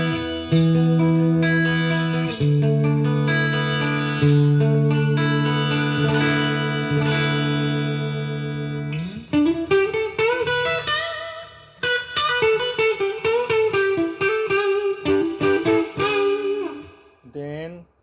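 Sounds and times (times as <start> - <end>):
clean electric guitar: 0.0 - 18.0.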